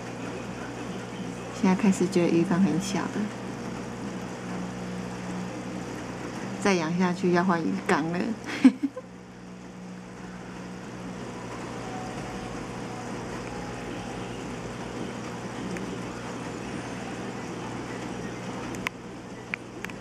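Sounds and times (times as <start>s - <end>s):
aquarium pump humming: 0.0s - 20.0s.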